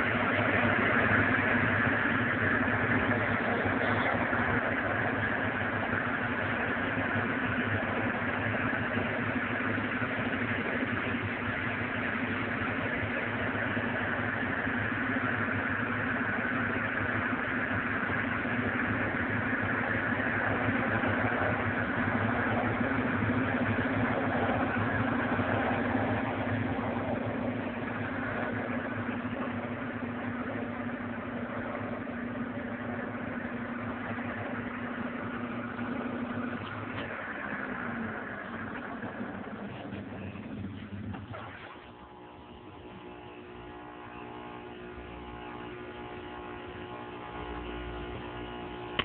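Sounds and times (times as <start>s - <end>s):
washing machine churning: 0.0s - 49.0s
washing machine motor hum: 0.0s - 49.0s.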